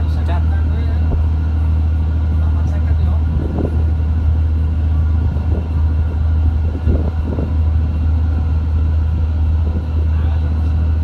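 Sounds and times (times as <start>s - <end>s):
boat diesel engine drone: 0.0s - 11.0s.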